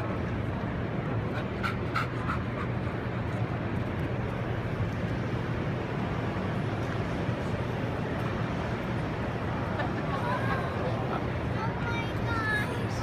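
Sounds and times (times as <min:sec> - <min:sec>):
low hall hum: 0:00.0 - 0:13.0.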